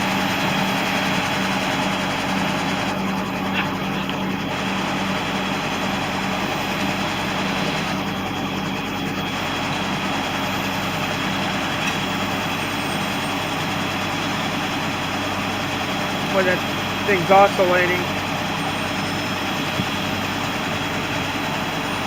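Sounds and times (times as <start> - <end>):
diesel engine speed hunting: 0.0 - 22.0.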